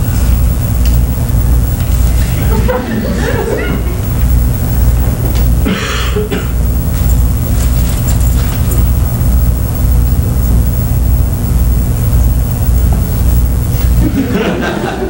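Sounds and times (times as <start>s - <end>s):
low pulsing machine drone: 0.0s - 15.0s.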